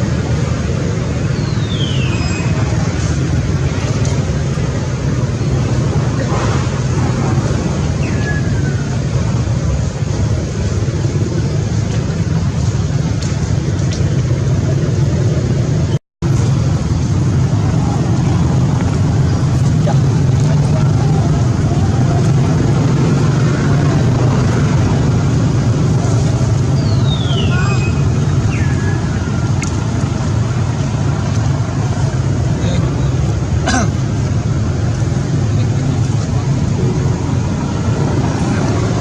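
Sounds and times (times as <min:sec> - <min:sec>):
steady rumbling noise: 0:00.0 - 0:39.0.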